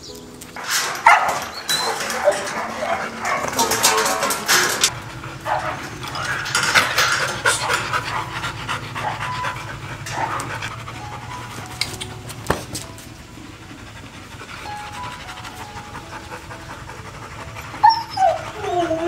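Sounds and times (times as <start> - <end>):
dog panting: 1.0 - 19.0.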